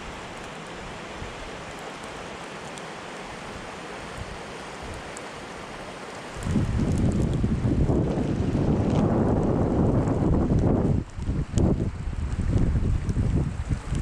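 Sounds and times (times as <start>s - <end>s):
blizzard wind and blowing snow: 0.0s - 14.0s.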